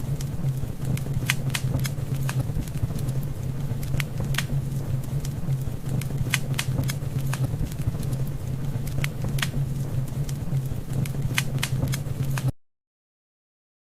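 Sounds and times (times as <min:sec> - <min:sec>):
wood fire crackling: 0:00.0 - 0:12.5.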